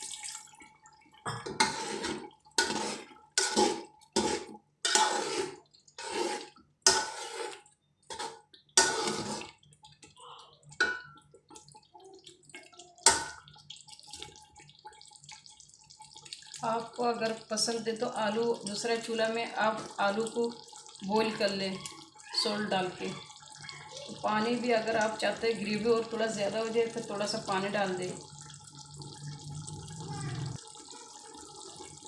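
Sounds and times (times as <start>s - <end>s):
water splashing into pot: 0.0s - 32.0s.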